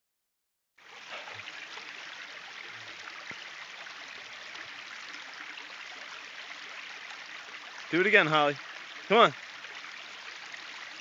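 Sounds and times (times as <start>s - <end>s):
creek water rushing: 0.8s - 11.0s.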